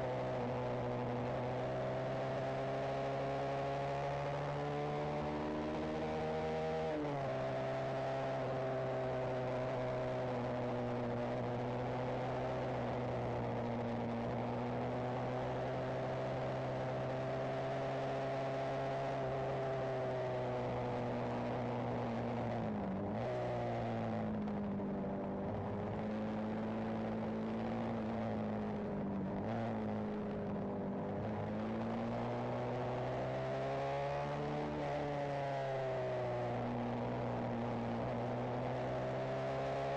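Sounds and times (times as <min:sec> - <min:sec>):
motorcycle engine while riding: 0:00.0 - 0:39.9
wind and road noise: 0:00.0 - 0:39.9.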